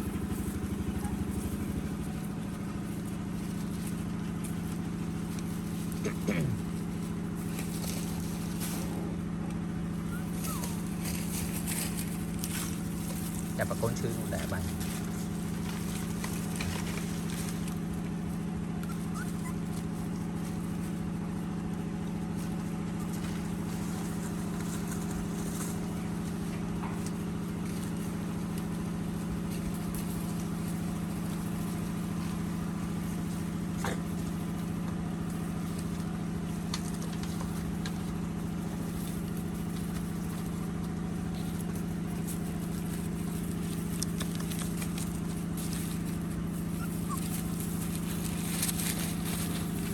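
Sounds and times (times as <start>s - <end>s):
low motor hum: 0.0s - 49.9s.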